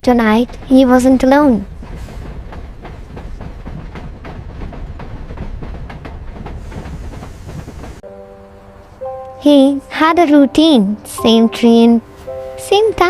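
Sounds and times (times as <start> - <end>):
rails clicking and rattling: 0.0 - 13.0
train rumbling on rails: 0.0 - 13.0.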